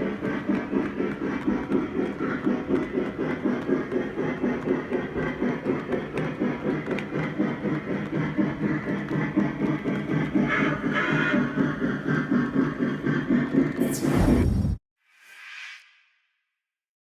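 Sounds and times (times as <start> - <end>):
model train running: 0.0 - 13.9.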